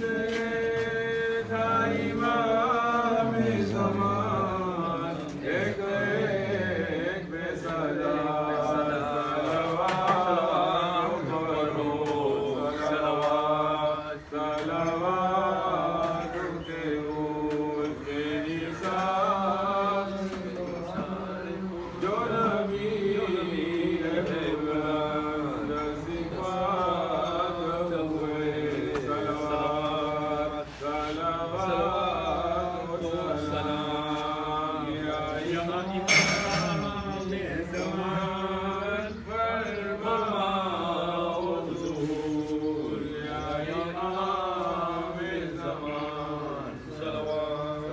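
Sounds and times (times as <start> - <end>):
man chanting: 0.0 - 47.9.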